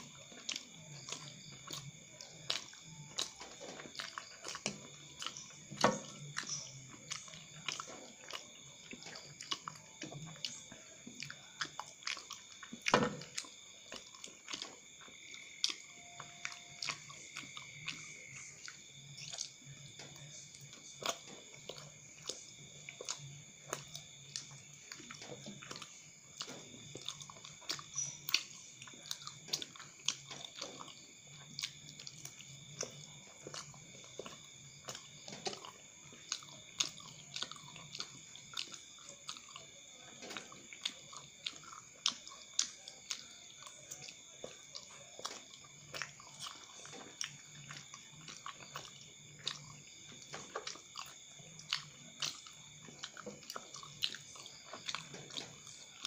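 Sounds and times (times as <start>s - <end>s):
person chewing chewy food: 0.0s - 56.0s.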